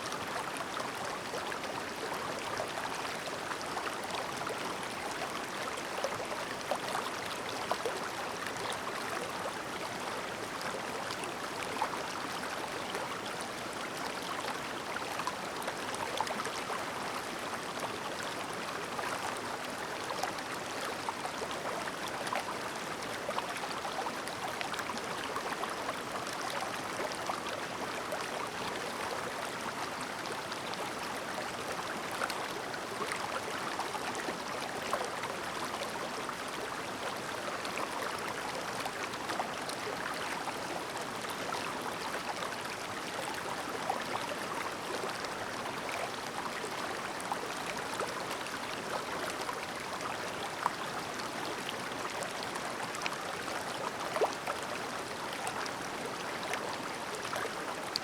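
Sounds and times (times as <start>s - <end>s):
stream burbling over rocks: 0.0s - 58.0s.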